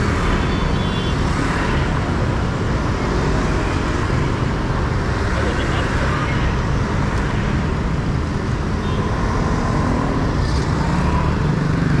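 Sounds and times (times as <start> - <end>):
scooters and cars passing: 0.0 - 12.0.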